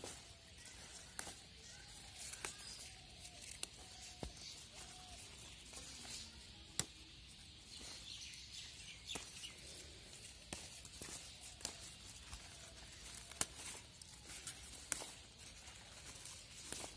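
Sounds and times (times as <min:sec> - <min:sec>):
leaves snapping off vines: 0:00.0 - 0:07.2, 0:09.0 - 0:16.9
faint birds chirping: 0:00.0 - 0:16.9.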